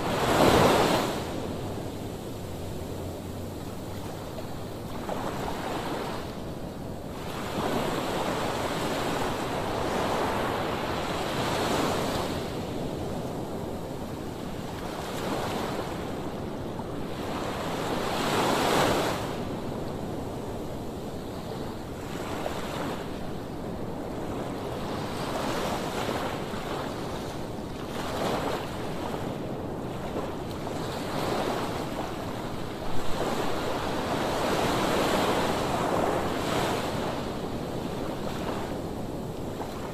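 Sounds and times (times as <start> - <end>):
sea waves washing ashore: 0.0 - 39.9
wind buffeting microphone: 0.0 - 39.9.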